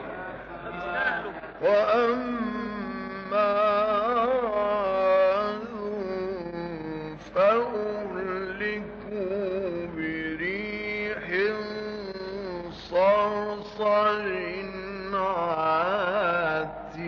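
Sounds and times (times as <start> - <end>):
man reciting melodically: 1.6 - 17.0.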